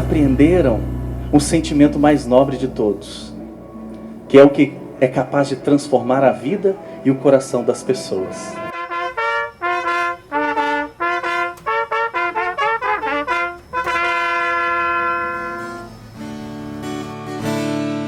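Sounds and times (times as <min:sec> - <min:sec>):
soft sustained chords: 0:00.0 - 0:18.0
trumpet playing a melody: 0:01.3 - 0:16.5.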